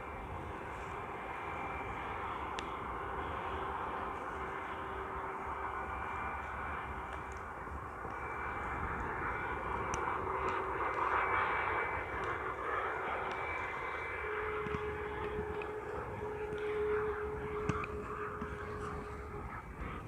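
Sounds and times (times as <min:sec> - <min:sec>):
jet engines whining and roaring: 0:00.0 - 0:20.0
wind rumbling on microphone: 0:00.0 - 0:20.0.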